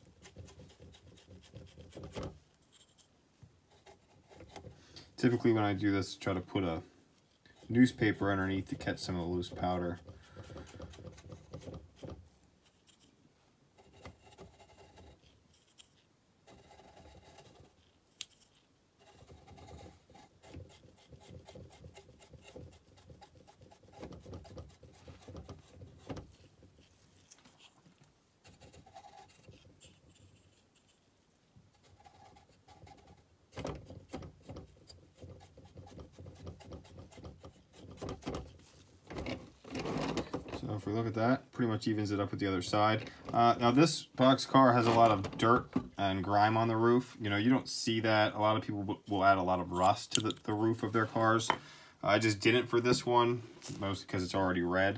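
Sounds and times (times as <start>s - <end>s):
brush scrubbing strokes: 0.0s - 39.6s, 46.0s - 51.5s.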